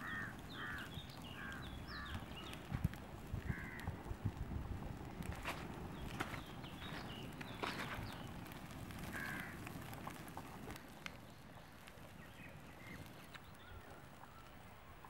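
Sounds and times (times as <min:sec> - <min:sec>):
birds calling: 0:00.0 - 0:04.1, 0:05.4 - 0:14.6
fire crackling and popping: 0:00.0 - 0:15.0.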